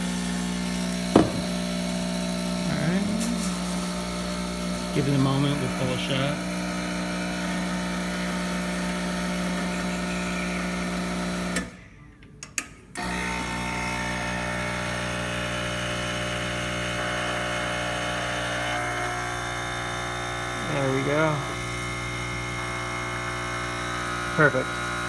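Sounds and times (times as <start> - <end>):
espresso machine pump buzzing: 0.0 - 11.8, 13.0 - 25.0.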